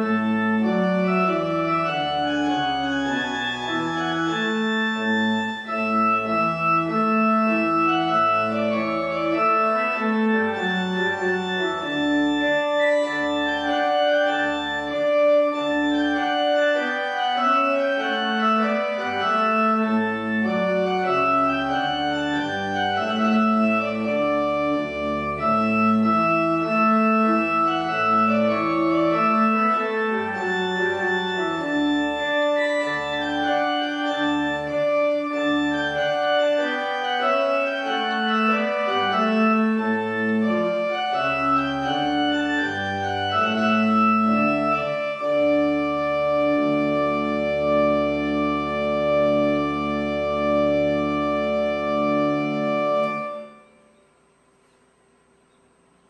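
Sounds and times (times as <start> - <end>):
church organ chords: 0.0 - 54.6.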